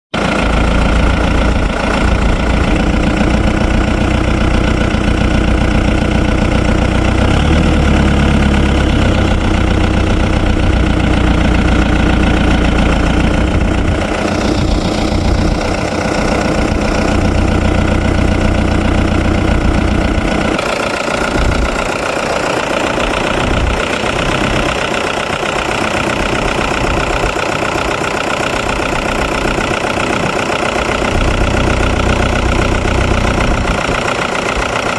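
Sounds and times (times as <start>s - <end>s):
diesel tractor engine rumbling: 0.1s - 34.9s.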